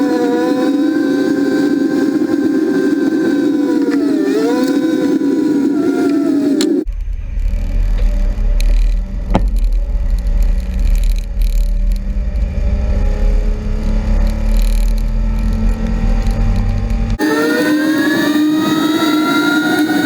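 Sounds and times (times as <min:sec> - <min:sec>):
utility vehicle engine rumble: 0:00.0 - 0:20.0.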